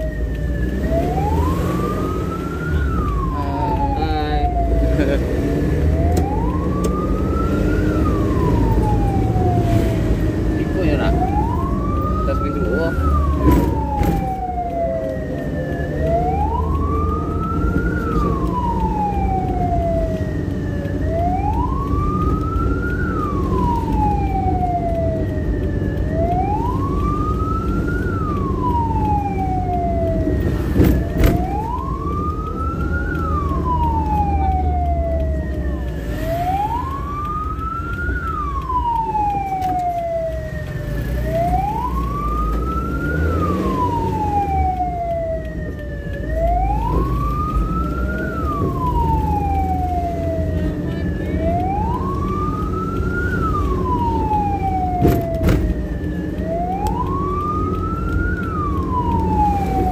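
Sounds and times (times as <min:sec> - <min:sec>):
ambulance siren wailing: 0:00.0 - 0:59.9
engine and road rumble: 0:00.0 - 0:59.9.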